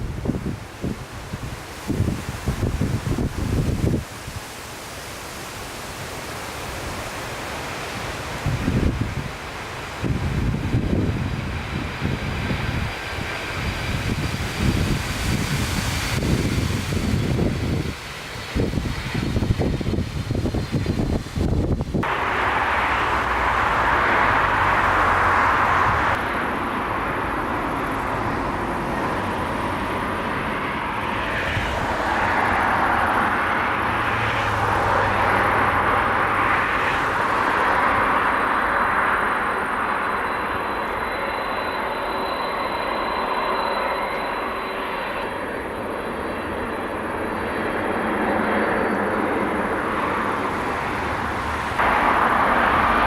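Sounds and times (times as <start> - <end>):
jet engines rushing: 0.0 - 53.0
faint high whine: 4.6 - 53.0.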